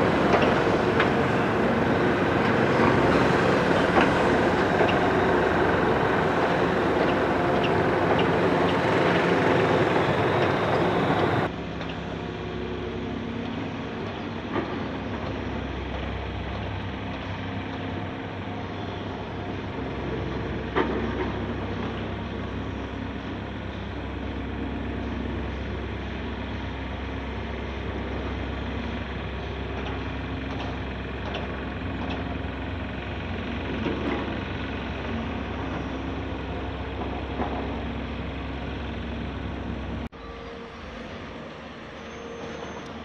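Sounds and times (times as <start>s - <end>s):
excavator engine droning: 0.0s - 43.0s.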